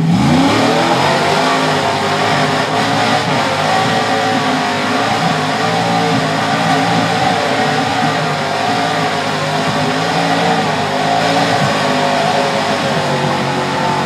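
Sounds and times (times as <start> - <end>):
engine at high revs: 0.0 - 14.0
tires spinning on rock: 0.0 - 14.0.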